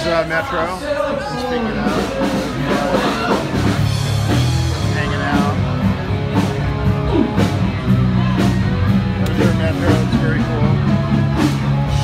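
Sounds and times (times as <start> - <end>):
drums: 0.0 - 12.0
rock music: 0.0 - 12.0
bass line: 1.8 - 12.0.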